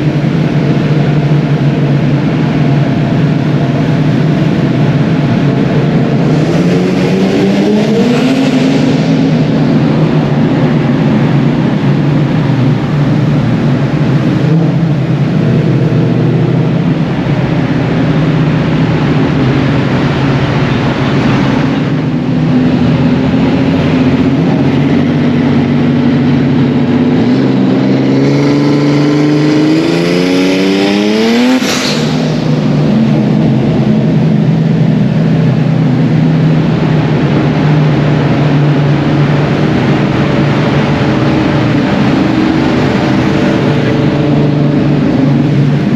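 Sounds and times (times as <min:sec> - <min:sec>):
car engine revving in a tunnel: 0:00.0 - 0:45.9.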